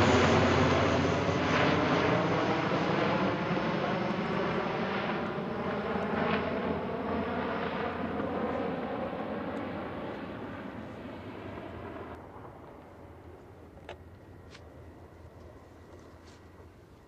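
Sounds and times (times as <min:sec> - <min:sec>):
turboprop aircraft droning overhead: 0:00.0 - 0:17.0.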